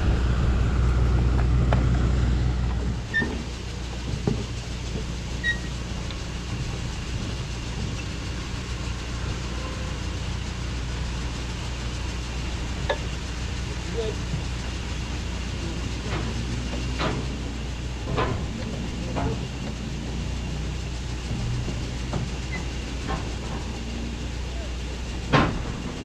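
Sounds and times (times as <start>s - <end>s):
machine hum: 0.0s - 26.0s.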